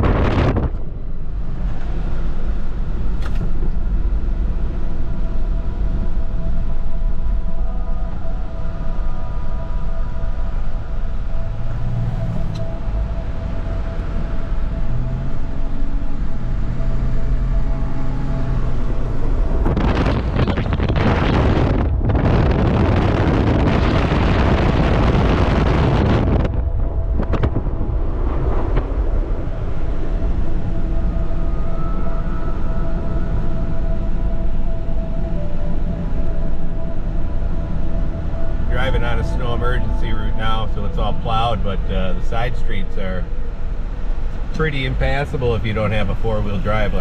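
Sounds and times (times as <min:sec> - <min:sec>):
engine and road rumble: 0:00.0 - 0:47.0.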